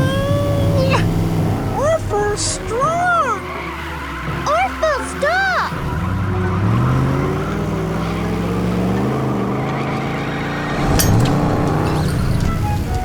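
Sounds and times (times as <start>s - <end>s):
cartoon truck engine revving: 0.0s - 13.0s.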